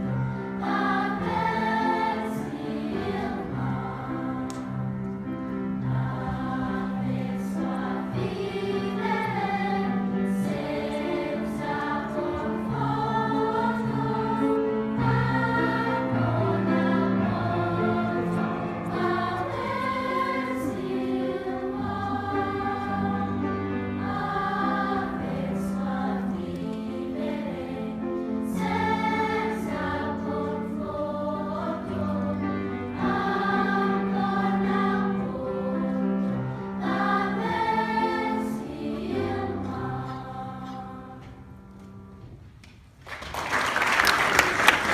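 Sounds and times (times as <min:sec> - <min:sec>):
children's choir singing: 0:00.0 - 0:42.0.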